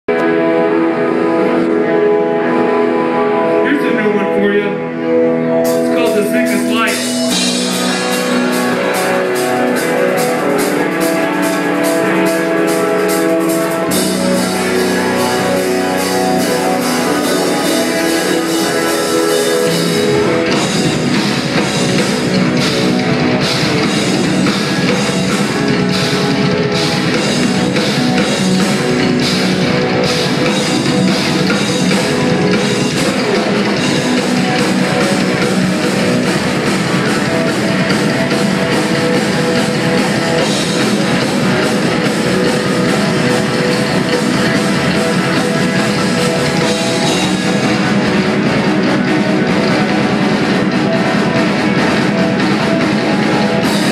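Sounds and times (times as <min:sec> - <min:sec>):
bass guitar: 0:00.0 - 0:53.9
live rock band playing: 0:00.1 - 0:53.9
fast drumming: 0:05.7 - 0:53.9.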